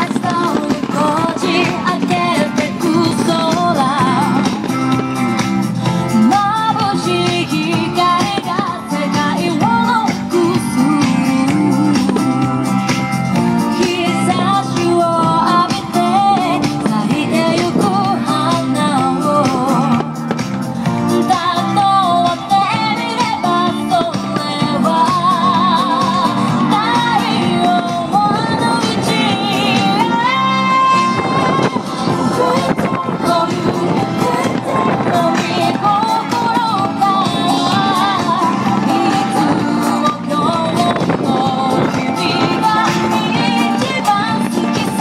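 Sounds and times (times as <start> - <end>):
music with singing voice: 0.0 - 45.0.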